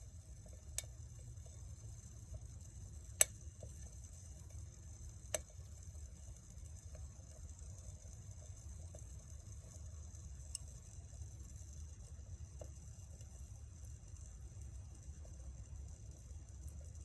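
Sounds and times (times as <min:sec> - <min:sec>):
low rumble of fire: 0:00.0 - 0:17.0
campfire crackling and popping: 0:00.1 - 0:15.3.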